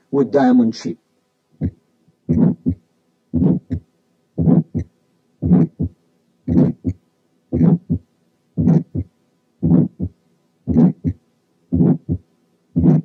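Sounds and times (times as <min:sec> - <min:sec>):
faint steady hum: 0:00.0 - 0:13.0
heartbeat with murmur: 0:01.6 - 0:03.8, 0:04.4 - 0:13.0.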